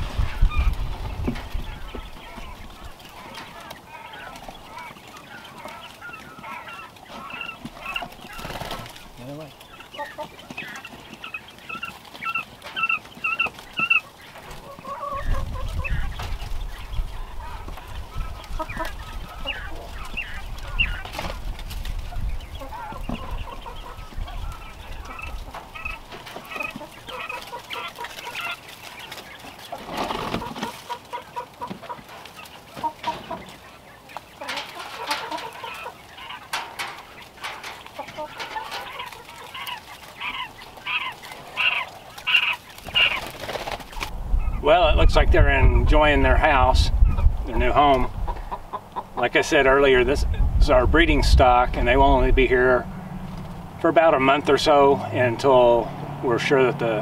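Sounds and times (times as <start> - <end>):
quail chirping and calling: 0.0 - 57.0.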